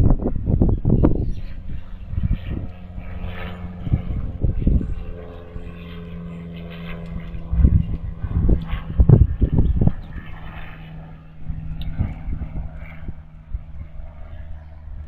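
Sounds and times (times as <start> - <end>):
steady engine drone: 0.0 - 15.0
wind buffeting microphone: 0.0 - 15.0.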